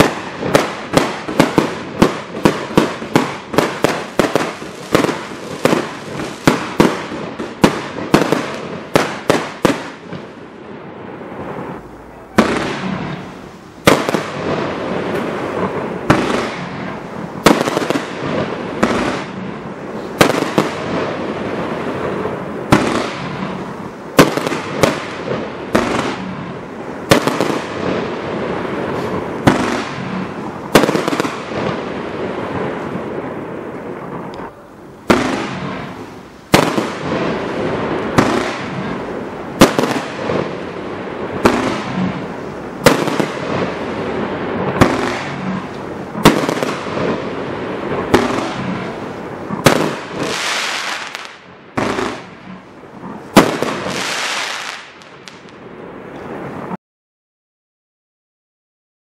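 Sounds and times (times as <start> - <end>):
firework bangs: 0.0 - 56.8
firework crackling: 0.0 - 56.8.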